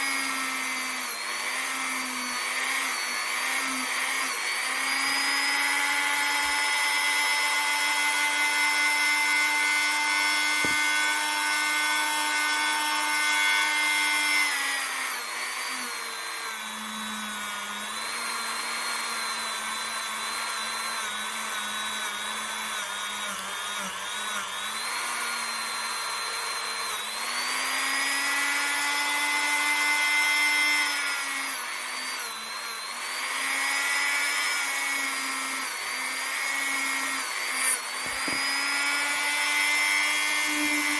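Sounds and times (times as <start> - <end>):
rotary tool whining: 0.0 - 40.9.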